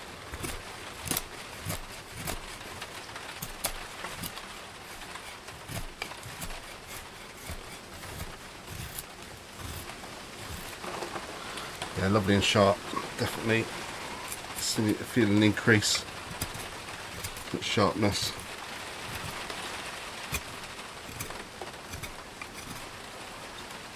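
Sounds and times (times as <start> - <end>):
knife slicing wood shavings: 0.0 - 23.1
wind and rain hiss: 0.0 - 23.9.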